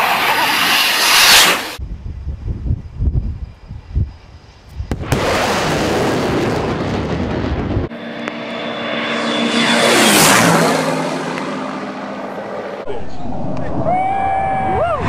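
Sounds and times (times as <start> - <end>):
aircraft roar: 0.0 - 15.0
low aircraft engine drone: 0.0 - 15.0.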